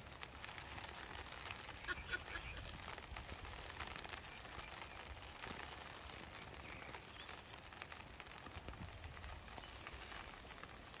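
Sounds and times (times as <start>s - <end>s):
plants rustling: 0.0s - 11.0s
wind rumbling on microphone: 0.0s - 11.0s.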